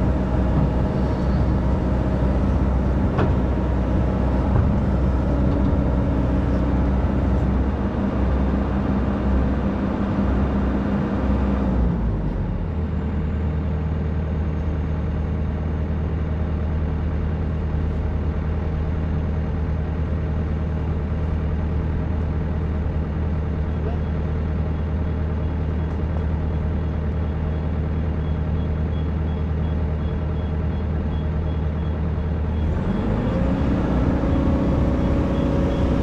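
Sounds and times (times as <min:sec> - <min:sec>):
excavator diesel engine: 0:00.0 - 0:36.0.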